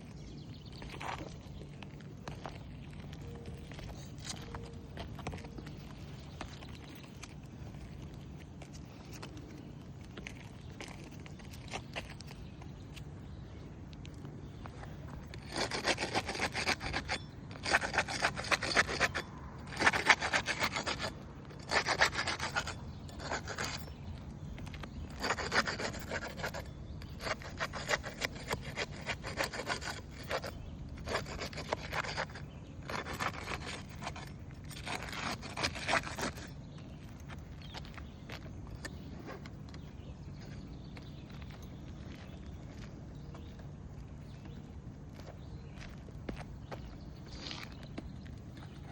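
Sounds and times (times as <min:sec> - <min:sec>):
metal tool scraping under shingles: 0:00.1 - 0:12.4, 0:15.0 - 0:42.4.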